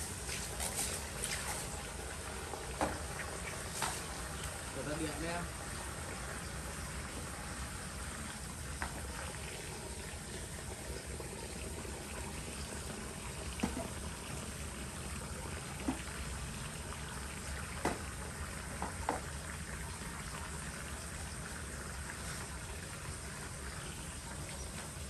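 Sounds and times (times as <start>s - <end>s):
hose water splashing into basin: 0.0s - 25.0s.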